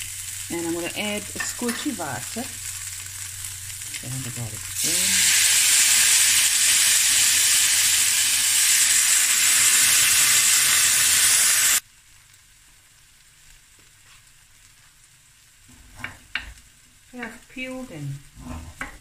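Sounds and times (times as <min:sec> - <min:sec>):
water sizzling in a hot pan: 0:00.0 - 0:18.2.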